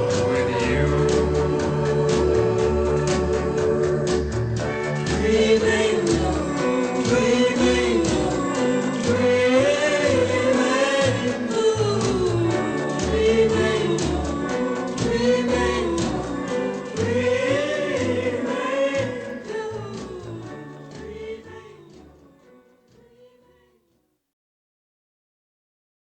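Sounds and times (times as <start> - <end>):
band with steady bass line: 0.0 - 22.3
vocal group singing in harmony: 0.0 - 22.3.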